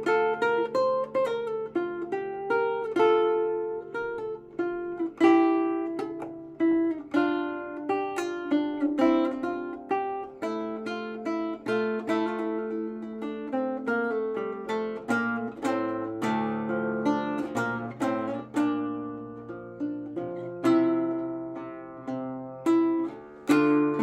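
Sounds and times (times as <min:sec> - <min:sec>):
acoustic guitar picking: 0:00.0 - 0:24.0.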